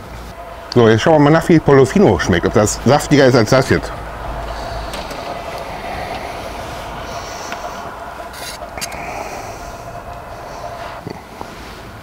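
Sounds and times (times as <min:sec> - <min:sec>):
rotisserie motor humming: 0:00.0 - 0:12.0.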